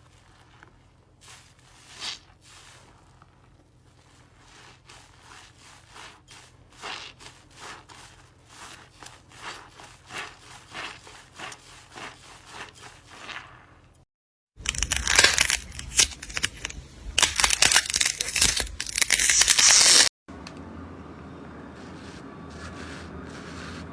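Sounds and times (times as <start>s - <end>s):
slime being worked by hand: 0.0s - 14.0s, 14.6s - 20.1s.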